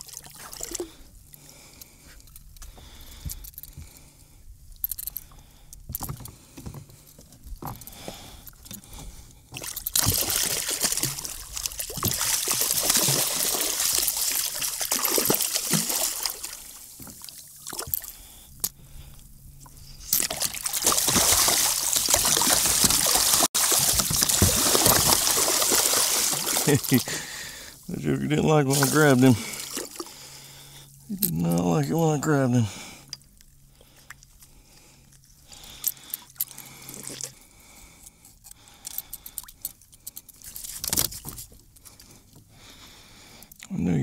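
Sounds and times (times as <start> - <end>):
water splashing and sloshing: 0.0 - 4.1, 4.8 - 42.9.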